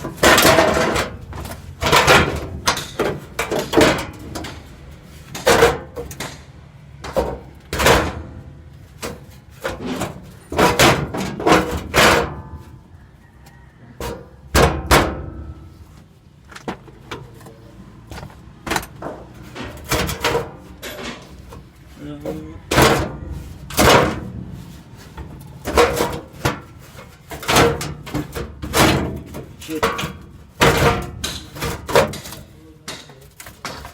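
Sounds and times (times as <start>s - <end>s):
metal parts clanking: 0.0s - 12.8s, 18.7s - 33.9s.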